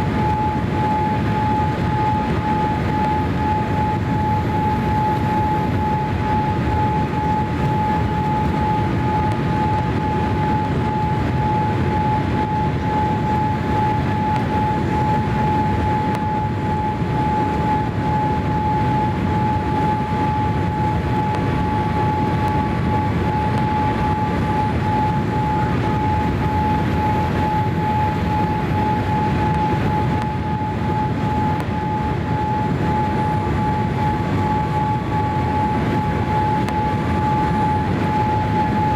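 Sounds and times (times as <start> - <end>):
airliner cabin rumble: 0.0 - 38.9
jet engines whining: 0.0 - 38.9.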